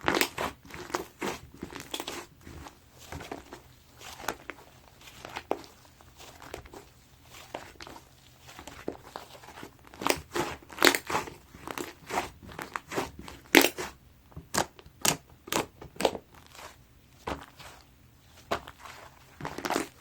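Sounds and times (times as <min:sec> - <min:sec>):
slime popping and crackling: 0:00.0 - 0:17.8, 0:18.4 - 0:20.0.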